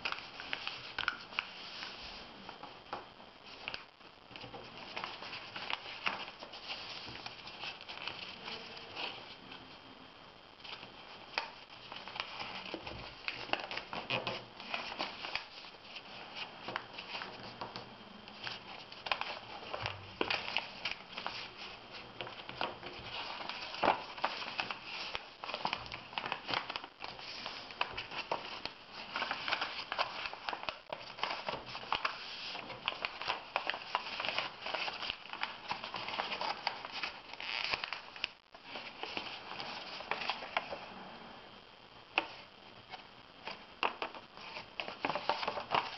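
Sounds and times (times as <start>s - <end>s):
paper rustling and crinkling: 0.0s - 2.7s, 3.4s - 9.6s, 10.6s - 41.0s, 42.2s - 45.9s.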